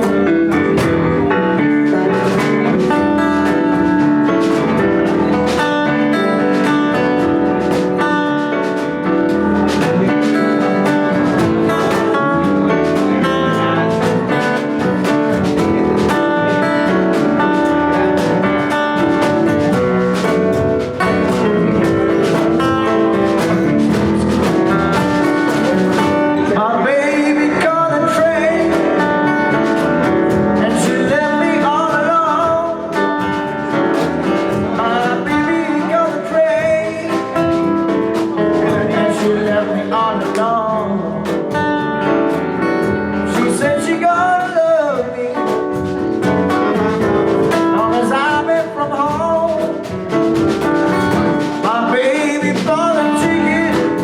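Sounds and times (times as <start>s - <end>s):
live band playing: 0.0s - 54.0s
person singing: 0.0s - 54.0s.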